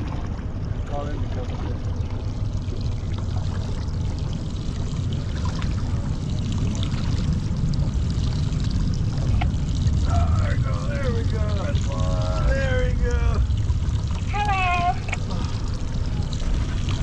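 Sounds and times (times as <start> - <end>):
low rumble: 0.0 - 17.0
water rushing and splashing: 0.0 - 17.0.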